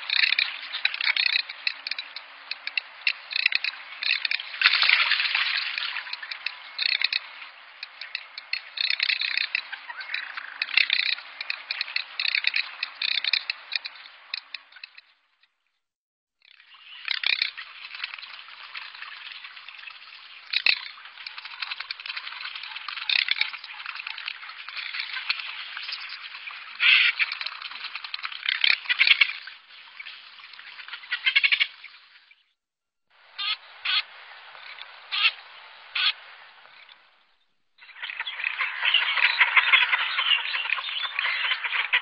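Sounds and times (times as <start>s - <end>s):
duck rattling call: 0.0s - 15.1s, 16.9s - 29.5s, 30.8s - 31.8s, 33.4s - 36.2s, 38.0s - 42.0s.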